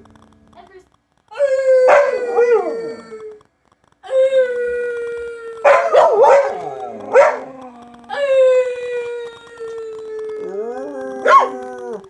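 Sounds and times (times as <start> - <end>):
dog howling: 1.3 - 3.4, 4.0 - 12.0.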